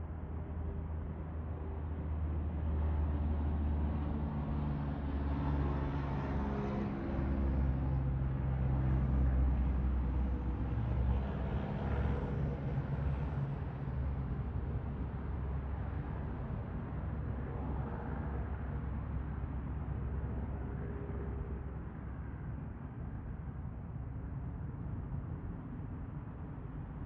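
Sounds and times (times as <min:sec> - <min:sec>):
jet engines low rumble: 0:00.0 - 0:27.0.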